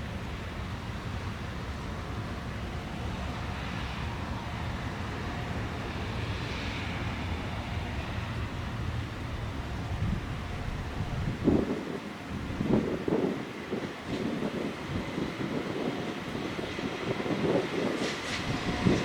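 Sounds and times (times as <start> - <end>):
distant train rumbling: 0.0 - 19.0.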